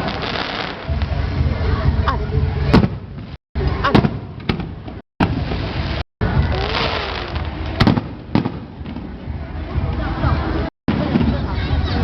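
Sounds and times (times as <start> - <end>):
fireworks bangs: 0.0 - 1.5, 2.6 - 10.0, 10.9 - 12.0
fireworks crackle and rumble: 0.0 - 12.0.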